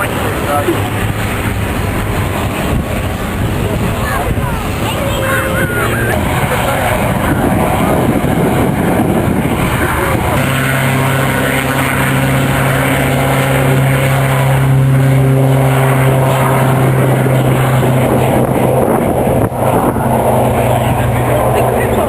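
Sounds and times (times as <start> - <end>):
aircraft engine rushing: 0.0 - 22.0
steady even-pitched drone: 0.0 - 22.0.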